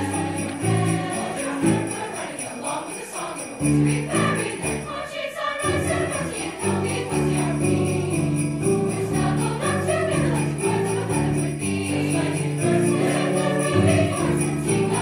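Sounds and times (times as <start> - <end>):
mixed choir singing: 0.0 - 15.0
sleigh bells shaken: 0.0 - 15.0.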